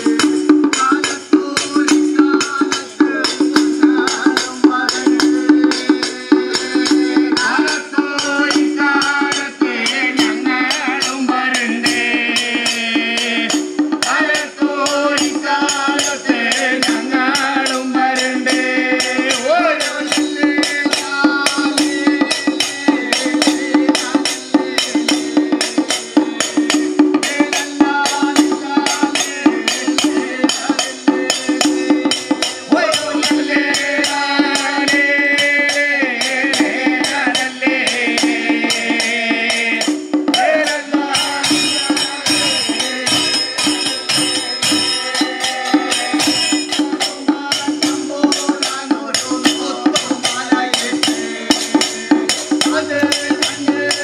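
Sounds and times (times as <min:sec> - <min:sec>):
sharp percussion strikes: 0:00.0 - 0:54.0.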